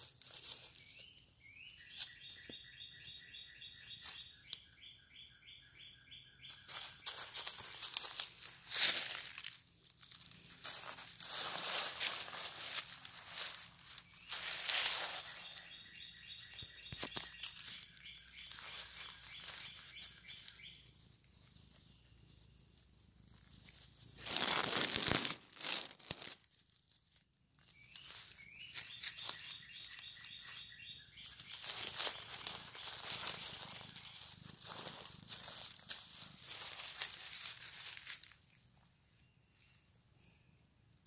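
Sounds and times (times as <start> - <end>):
dry leaves rustling and crackling: 0.0 - 2.5, 3.7 - 4.6, 6.5 - 40.7
faint high bird chirps: 0.4 - 9.3, 10.4 - 22.8, 27.6 - 41.0.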